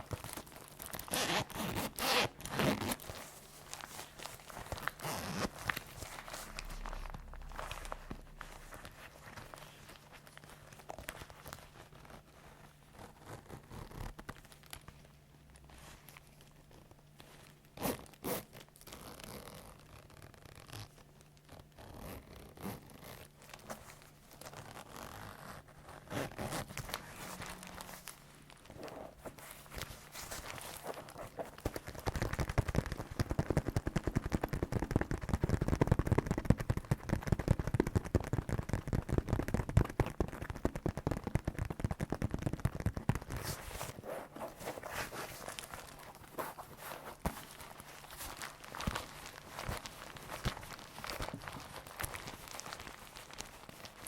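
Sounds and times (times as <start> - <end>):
leather creaking and rustling: 0.1 - 14.6, 17.2 - 34.6, 41.8 - 54.0.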